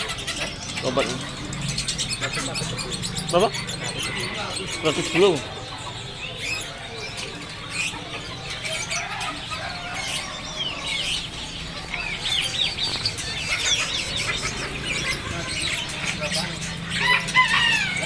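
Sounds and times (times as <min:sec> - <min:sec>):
caged birds chirping: 0:00.0 - 0:18.0.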